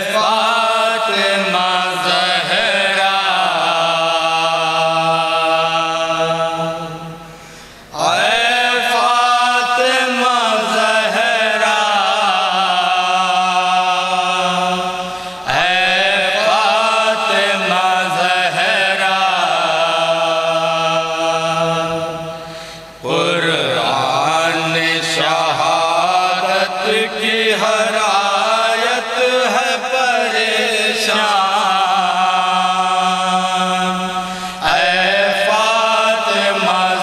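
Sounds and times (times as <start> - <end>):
men chanting a lament: 0.0 - 37.0.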